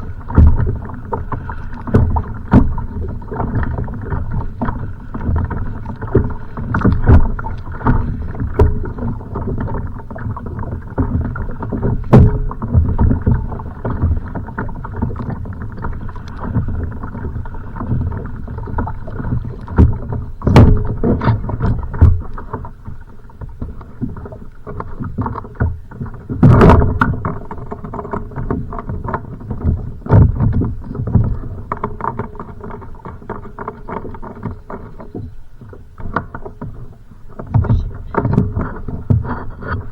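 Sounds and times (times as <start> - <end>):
water slapping against kayak hull: 0.0 - 39.9
waves thumping boat: 0.0 - 39.9.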